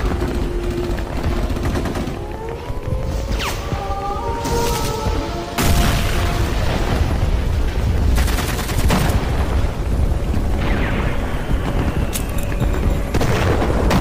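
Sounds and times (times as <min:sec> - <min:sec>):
low rumble of booms and shots: 0:00.0 - 0:14.0.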